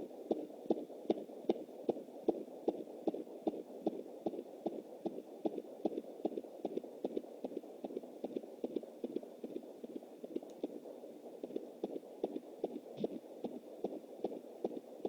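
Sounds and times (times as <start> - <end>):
fast whooshing heartbeat pulse: 0.0 - 15.0.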